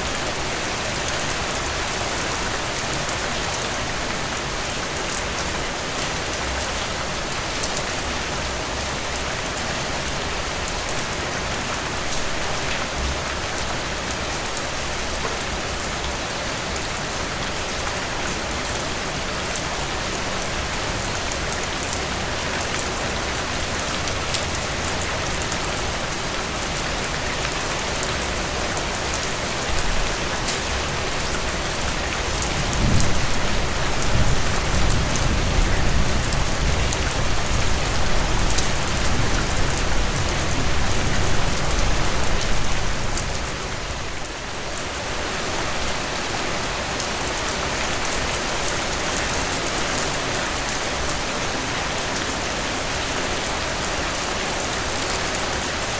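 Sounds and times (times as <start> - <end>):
rain pattering on surfaces: 0.0 - 55.9.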